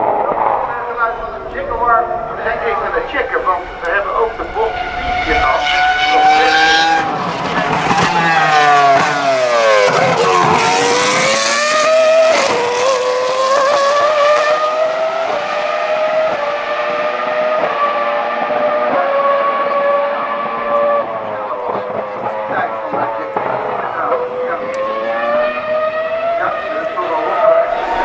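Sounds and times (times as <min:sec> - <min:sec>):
racing car engine downshifting and accelerating: 0:00.0 - 0:28.0.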